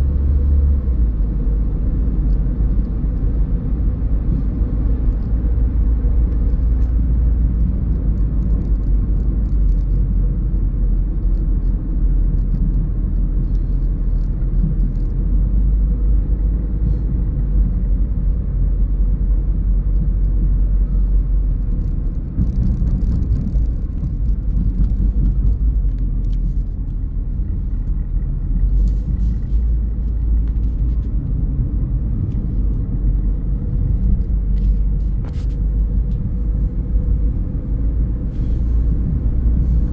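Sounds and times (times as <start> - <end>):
car driving on road rumble: 0.0 - 39.9.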